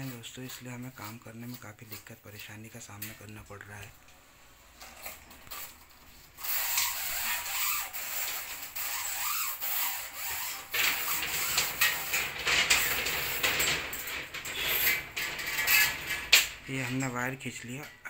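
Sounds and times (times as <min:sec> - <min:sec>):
wires scraping through conduit: 0:00.0 - 0:04.0, 0:04.6 - 0:18.0.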